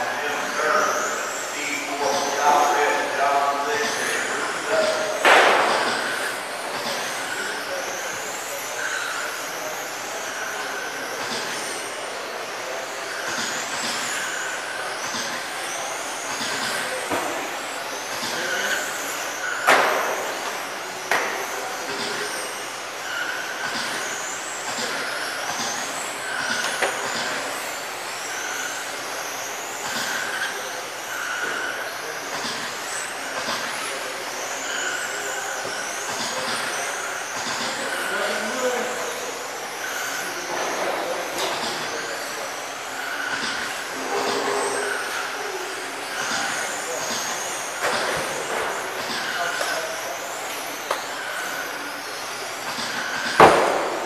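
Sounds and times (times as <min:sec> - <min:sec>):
rc car motor whine: 0:00.0 - 0:54.0.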